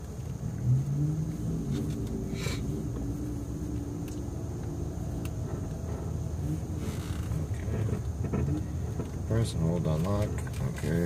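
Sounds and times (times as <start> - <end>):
low hum: 0.0 - 9.5
car engine rumble inside cabin: 0.0 - 11.0.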